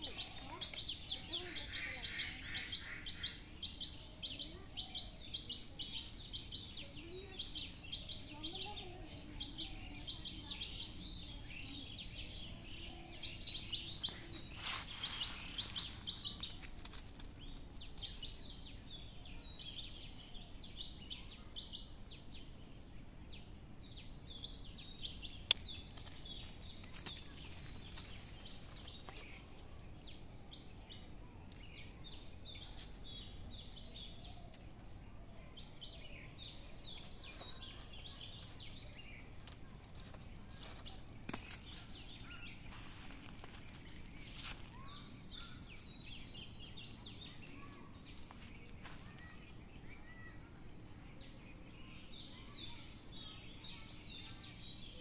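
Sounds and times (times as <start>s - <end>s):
small birds chirping: 0.0s - 55.0s
steady low background noise: 0.0s - 55.0s.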